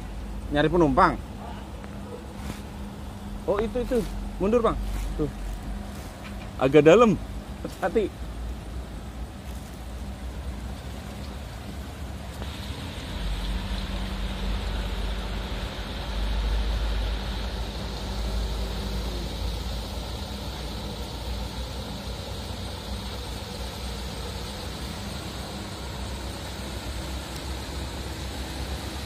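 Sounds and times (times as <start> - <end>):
car engine rumbling: 0.0 - 29.0
engine hum: 0.0 - 29.0
water hissing around car: 0.0 - 29.0.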